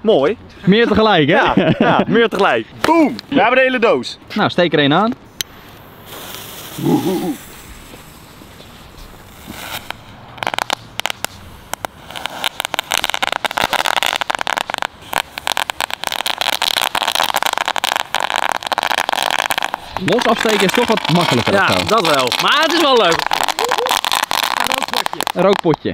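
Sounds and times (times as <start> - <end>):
firework crackling pops: 5.1 - 25.9.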